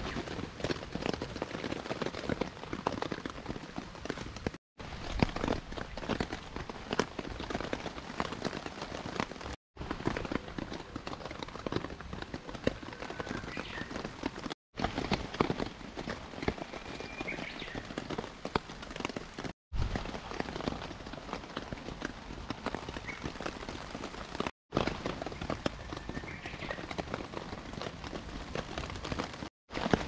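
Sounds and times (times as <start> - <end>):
rain pattering on a tarp: 0.0 - 30.0.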